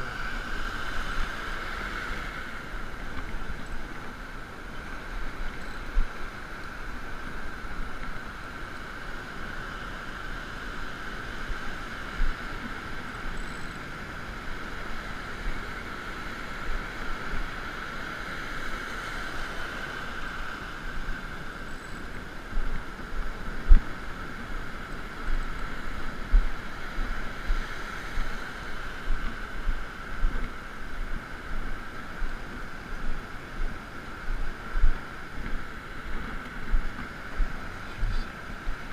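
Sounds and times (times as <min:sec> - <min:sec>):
surf washing in the shallows: 0:00.0 - 0:38.9
wind buffeting the microphone: 0:00.0 - 0:38.9.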